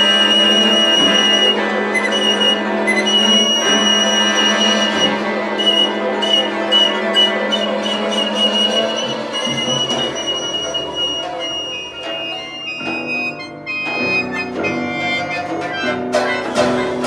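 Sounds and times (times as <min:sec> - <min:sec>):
chamber ensemble playing: 0:00.0 - 0:17.0.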